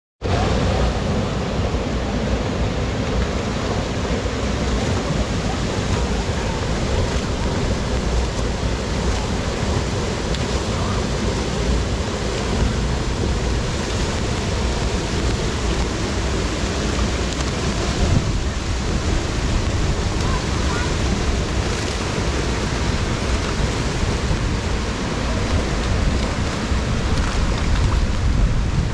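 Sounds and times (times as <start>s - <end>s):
water pouring over falls: 0.3s - 28.9s.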